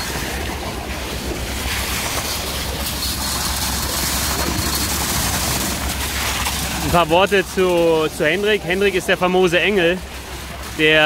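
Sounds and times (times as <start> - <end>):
concrete pump engine drone: 0.0 - 11.0.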